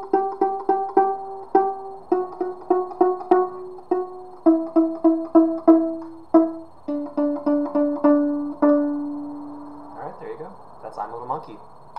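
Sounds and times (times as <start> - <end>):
violin plucked pizzicato: 0.0 - 9.8.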